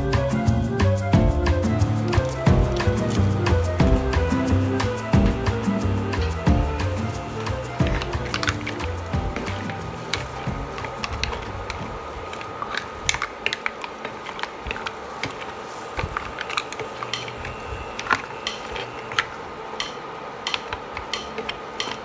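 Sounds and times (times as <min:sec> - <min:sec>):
steady background hiss: 0:01.7 - 0:22.0.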